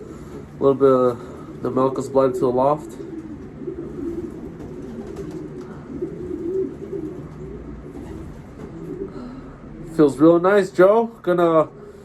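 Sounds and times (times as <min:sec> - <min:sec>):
pigeons cooing: 0:00.0 - 0:10.4, 0:11.7 - 0:12.0.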